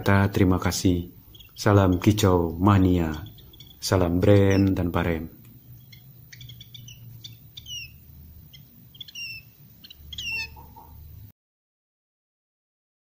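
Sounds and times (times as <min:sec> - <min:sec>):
chicks chirping: 0:00.4 - 0:11.3.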